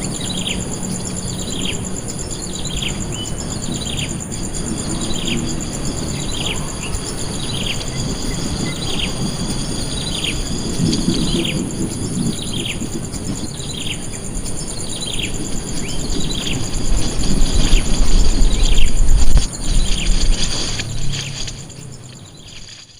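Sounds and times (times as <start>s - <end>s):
high insect buzz: 0.0s - 22.9s.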